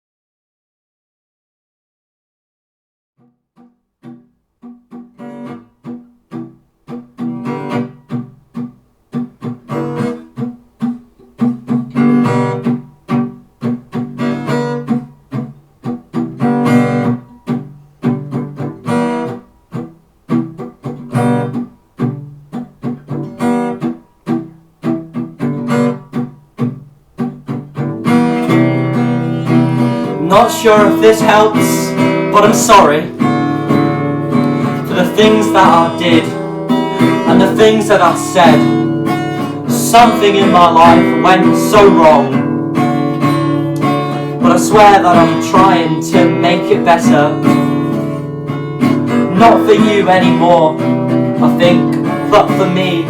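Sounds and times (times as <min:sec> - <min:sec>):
acoustic guitar plucking: 0:03.2 - 0:53.0.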